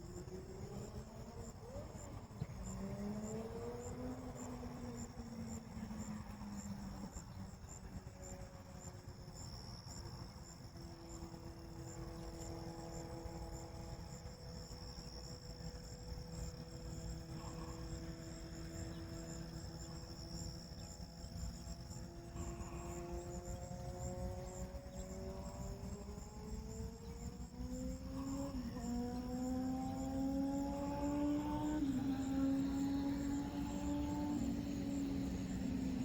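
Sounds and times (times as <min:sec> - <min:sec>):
crickets chirping: 0:00.0 - 0:36.0
faint low hum: 0:00.0 - 0:36.0
high insect trill: 0:00.0 - 0:36.0.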